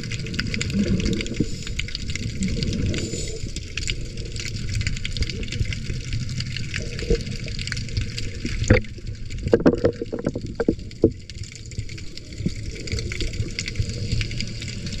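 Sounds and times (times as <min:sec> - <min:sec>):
crackling clicks: 0:00.0 - 0:15.0
muffled underwater rumble: 0:00.0 - 0:15.0.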